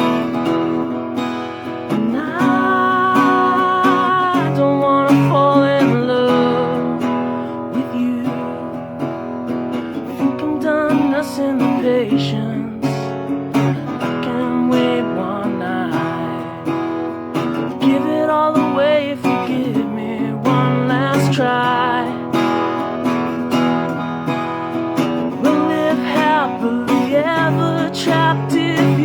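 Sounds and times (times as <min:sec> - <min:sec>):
strummed acoustic guitar: 0:00.0 - 0:29.0.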